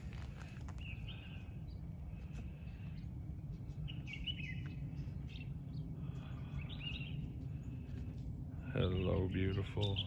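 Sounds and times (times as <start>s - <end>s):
low background rumble: 0.0s - 10.0s
small birds chirping: 0.0s - 10.0s.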